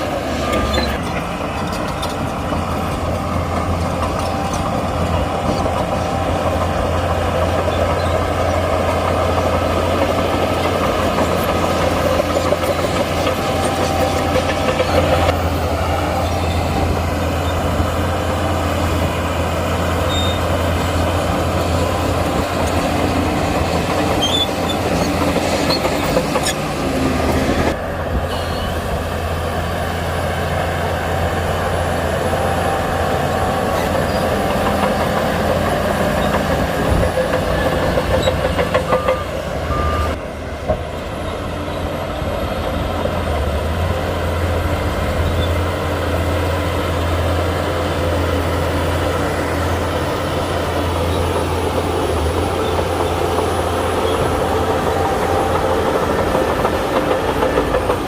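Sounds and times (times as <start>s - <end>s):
deep diesel engine drone: 0.0s - 58.0s.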